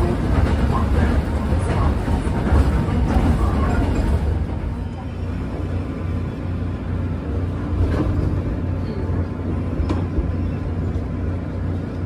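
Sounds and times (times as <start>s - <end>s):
electric train hum and running noise: 0.0s - 12.0s.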